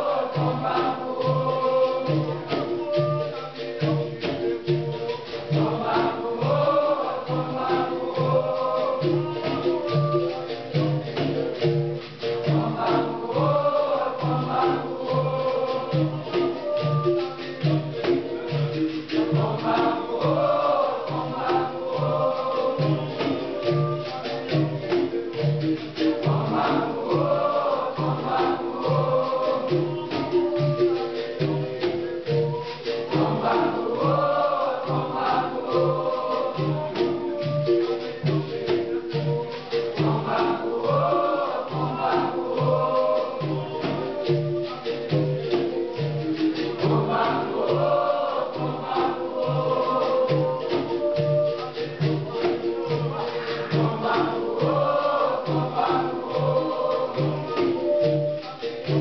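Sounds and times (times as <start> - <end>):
group singing chorus: 0.0 - 59.0
jingling hand percussion: 0.0 - 59.0
steady percussion beat: 0.0 - 59.0.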